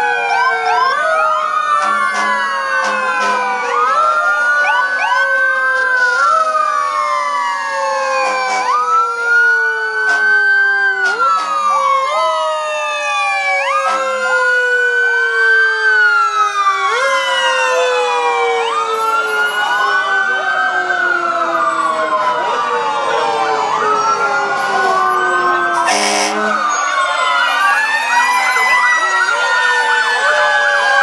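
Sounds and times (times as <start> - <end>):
emergency sirens wailing: 0.0 - 31.0.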